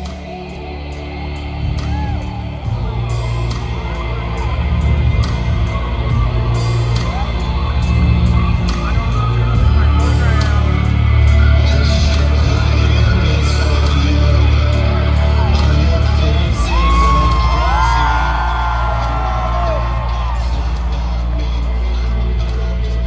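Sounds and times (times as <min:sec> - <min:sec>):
crowd yelling: 0:00.0 - 0:23.0
deep steady bass drone: 0:00.0 - 0:23.0
loud heavy metal music: 0:00.0 - 0:23.0.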